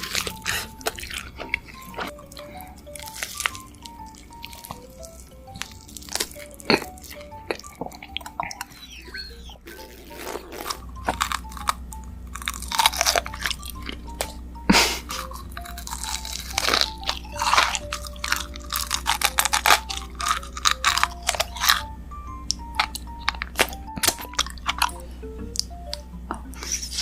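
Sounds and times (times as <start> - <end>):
crunchy biting and chewing: 0.0 - 14.4, 15.0 - 21.9, 22.5 - 26.0
light background music: 0.0 - 27.0.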